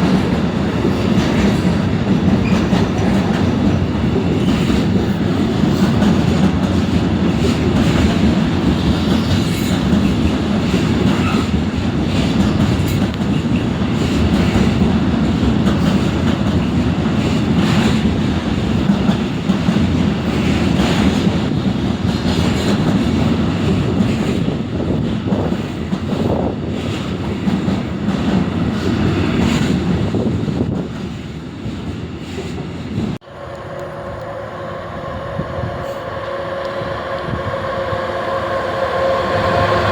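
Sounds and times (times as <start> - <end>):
train wheels clattering over rails: 0.0 - 33.2.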